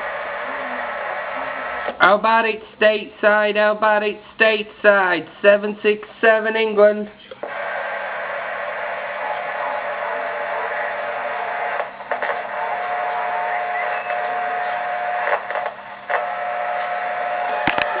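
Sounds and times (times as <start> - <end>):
radio static hiss: 0.0 - 18.0
steady radio tone: 0.0 - 18.0.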